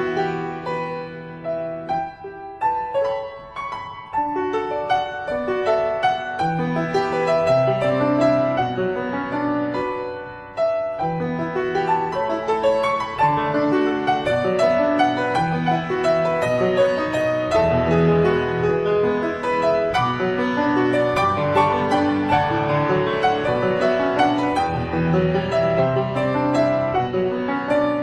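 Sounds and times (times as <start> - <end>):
classical piano music: 0.0 - 28.0.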